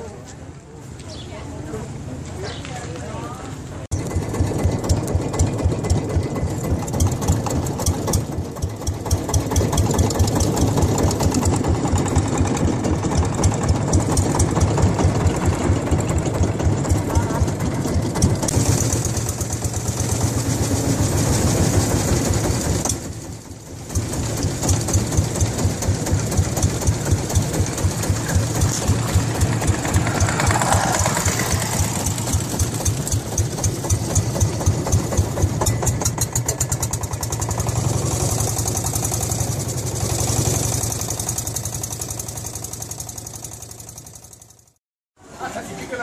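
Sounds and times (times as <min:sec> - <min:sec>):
boat engine running: 0:03.9 - 0:44.8.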